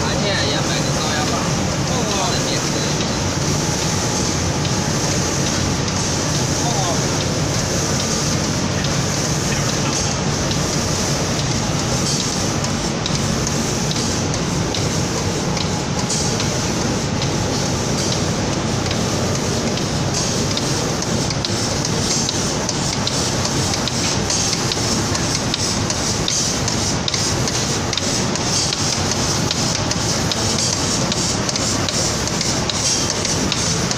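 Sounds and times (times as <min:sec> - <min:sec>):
compressed-air spray hiss: 0:02.5 - 0:33.9.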